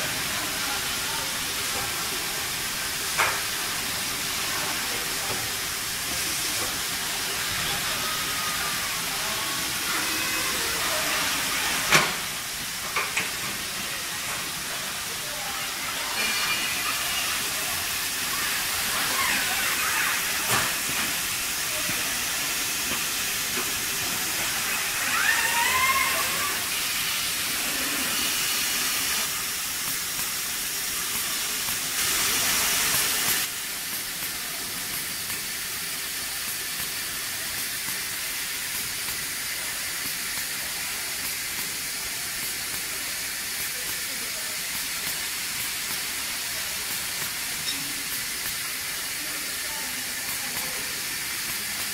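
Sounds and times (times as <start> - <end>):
assembly line hiss: 0.0 - 51.9.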